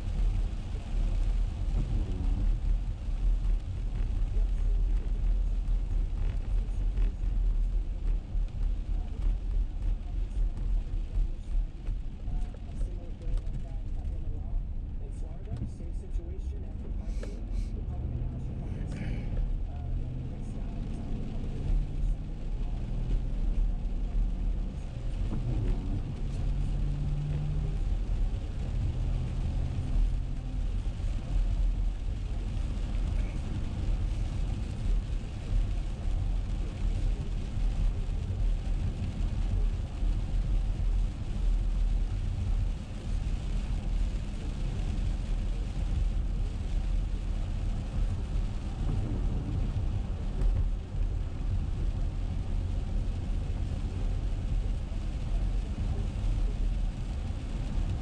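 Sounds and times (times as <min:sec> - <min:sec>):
car cabin rumble: 0:00.0 - 0:58.0
rain hiss on wet road: 0:00.0 - 0:58.0.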